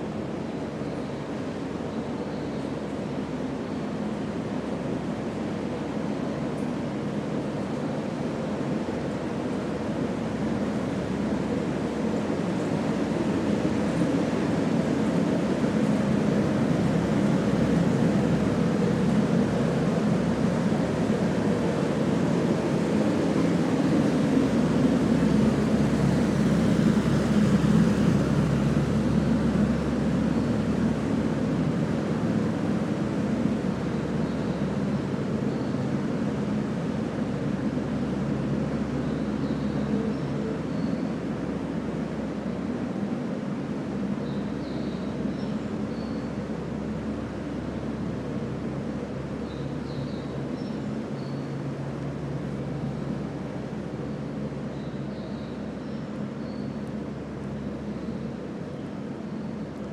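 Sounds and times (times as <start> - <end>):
low rumbling machinery drone: 0.0 - 59.9.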